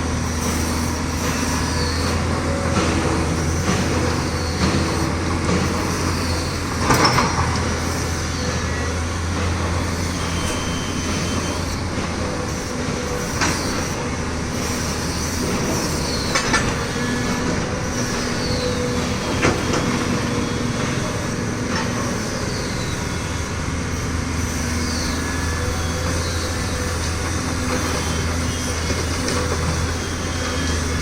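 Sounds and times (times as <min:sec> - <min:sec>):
heavy machinery engine drone: 0:00.0 - 0:31.0.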